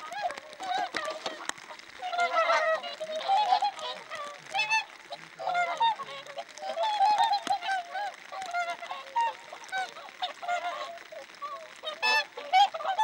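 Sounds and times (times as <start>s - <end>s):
swans honking: 0.0s - 13.0s.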